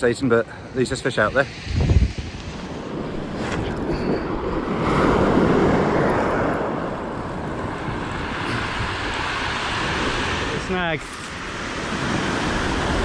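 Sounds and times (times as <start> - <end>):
wind buffeting microphone: 0.0 - 13.0
waves on shingle shore: 1.4 - 13.0.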